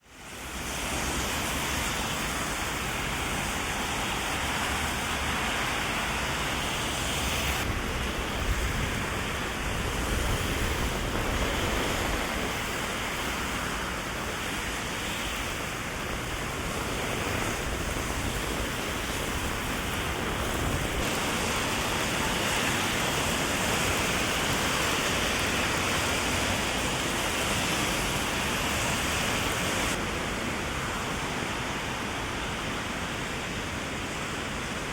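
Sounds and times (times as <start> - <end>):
heavy rain on an umbrella: 0.0 - 34.9.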